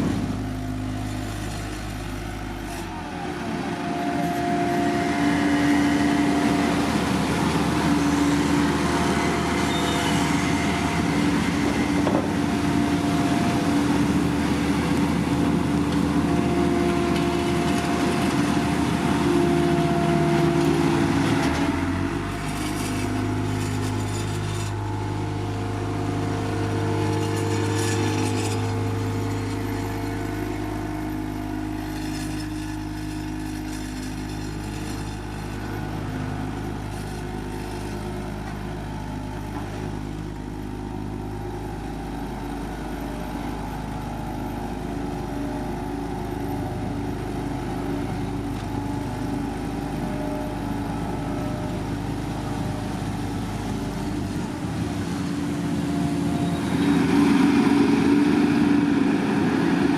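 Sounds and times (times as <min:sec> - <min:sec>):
diesel engine deep hum: 0:00.0 - 0:59.9.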